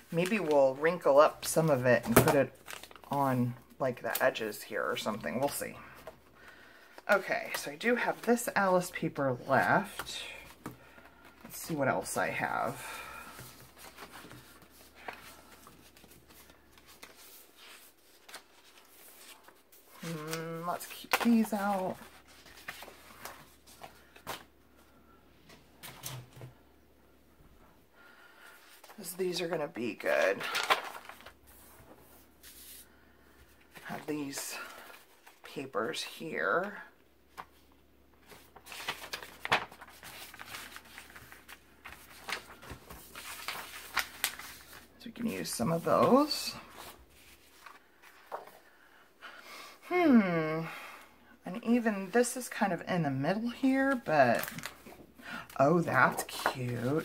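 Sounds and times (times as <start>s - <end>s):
paper pages rustling: 0.0s - 3.2s, 5.0s - 24.6s, 28.5s - 48.6s, 53.5s - 57.0s.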